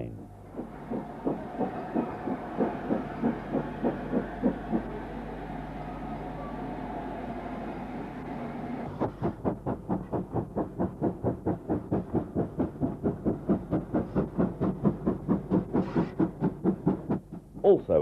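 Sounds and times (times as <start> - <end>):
steam locomotive exhaust chuffs: 0.0 - 18.0.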